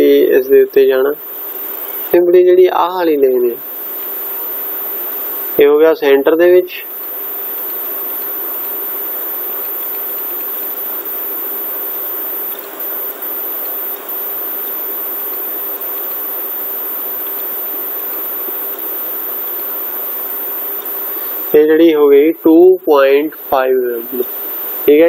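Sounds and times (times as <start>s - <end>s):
background hiss: 0.0s - 25.0s.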